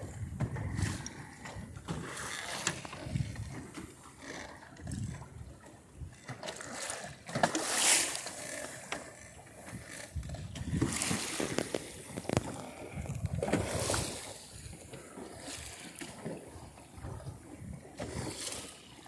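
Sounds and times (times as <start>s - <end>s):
sea water slapping a hull: 0.0s - 19.0s.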